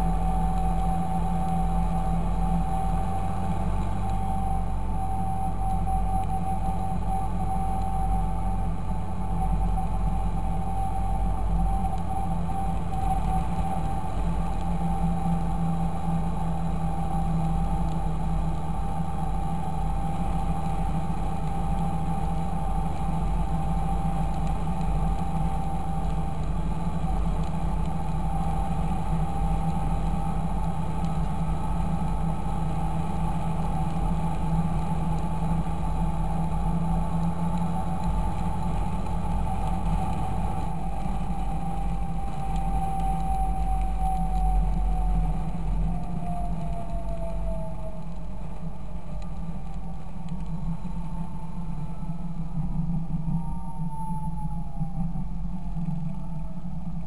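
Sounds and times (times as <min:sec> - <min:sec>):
high engine whine: 0:00.0 - 0:57.0.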